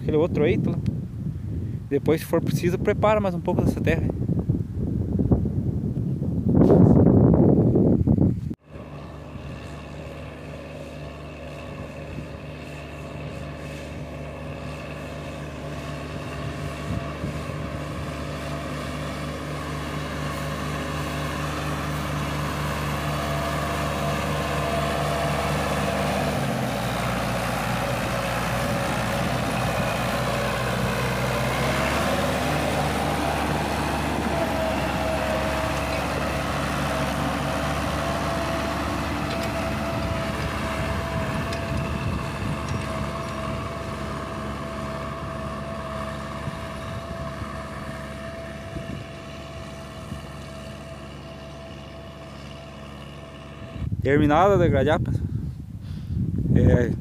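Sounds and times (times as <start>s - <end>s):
tractor diesel engine running: 7.2s - 57.0s.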